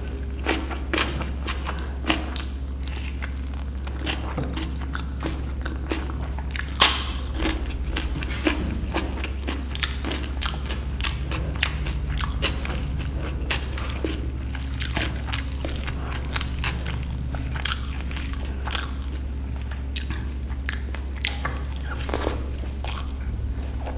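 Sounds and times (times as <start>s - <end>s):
steady low hum: 0.0s - 23.9s
wet chewing and mouth clicks: 0.0s - 23.9s.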